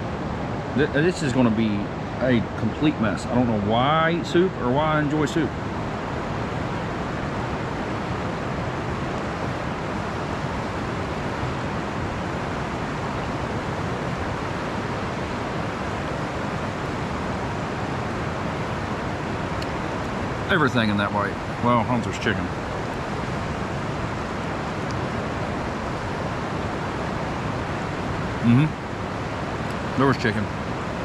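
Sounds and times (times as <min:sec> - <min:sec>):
river rushing over rocks: 0:00.0 - 0:31.0.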